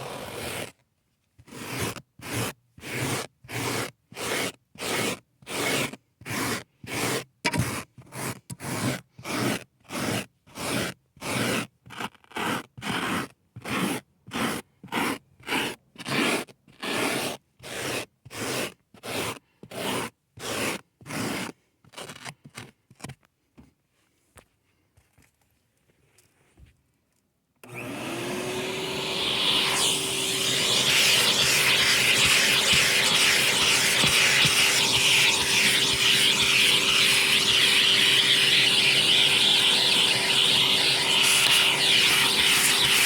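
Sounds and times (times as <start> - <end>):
scraping strokes on carpet: 1.4 - 22.6, 28.6 - 43.0.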